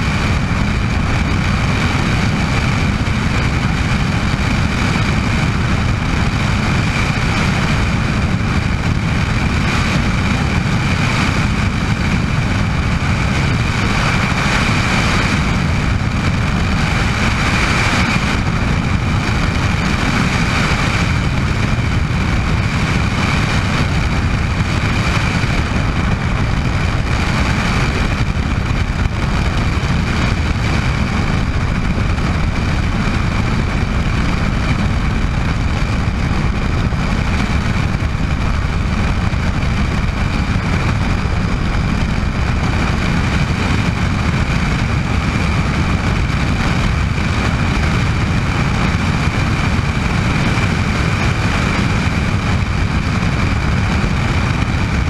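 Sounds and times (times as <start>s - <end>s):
helicopter rotor rumble: 0.0s - 55.0s
helicopter turbine whine: 0.0s - 55.0s.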